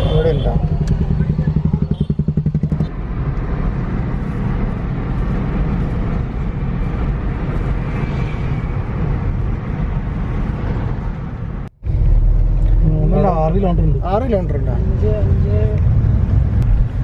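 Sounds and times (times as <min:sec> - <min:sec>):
vehicle road and engine noise: 0:00.0 - 0:17.0.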